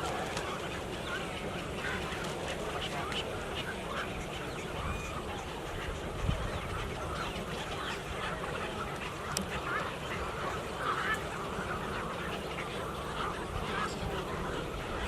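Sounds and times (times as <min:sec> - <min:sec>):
flock of birds calling: 0:00.0 - 0:15.0.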